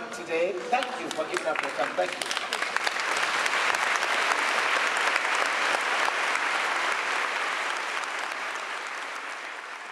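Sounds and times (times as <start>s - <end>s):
audience applauding: 0.7s - 9.9s.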